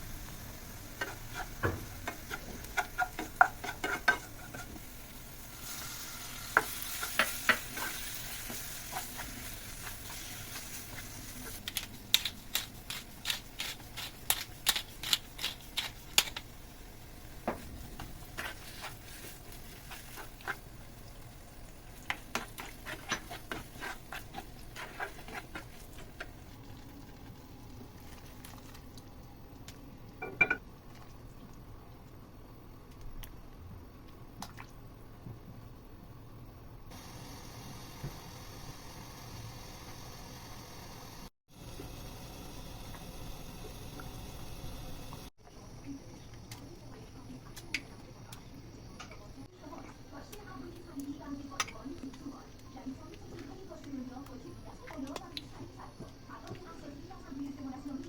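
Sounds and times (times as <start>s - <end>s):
onion frying in oil: 0.0s - 31.0s, 36.9s - 58.0s.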